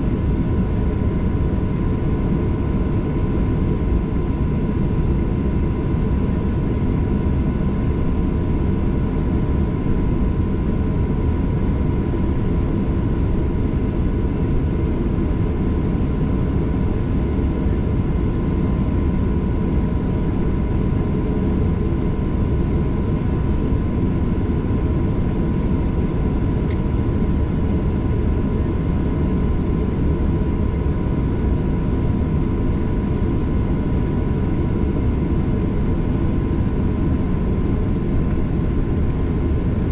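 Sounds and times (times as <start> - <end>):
aircraft cabin rumble: 0.0 - 39.9
faint steady whine: 0.0 - 39.9.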